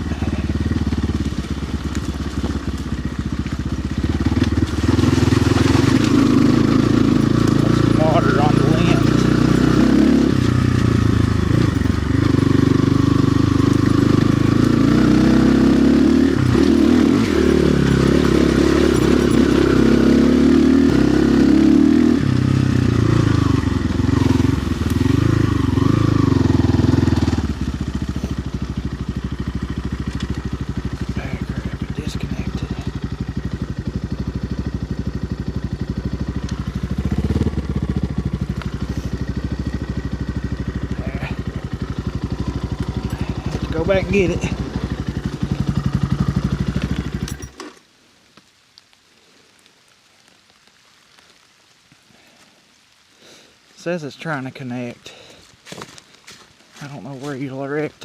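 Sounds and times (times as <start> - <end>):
dirt bike engine revving: 0.0 - 47.6.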